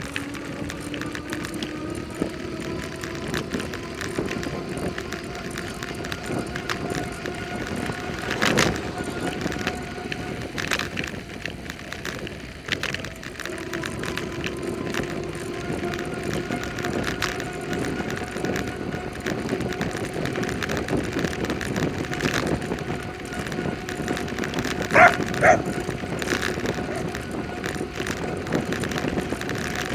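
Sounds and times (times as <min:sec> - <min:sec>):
bicycle rattling over bumps: 0:00.0 - 0:29.9
bicycle tyre and wind noise: 0:00.0 - 0:29.9.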